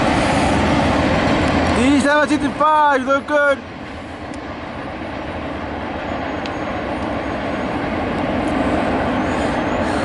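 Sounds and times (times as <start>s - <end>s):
freight train wheels rumbling: 0.0s - 10.0s.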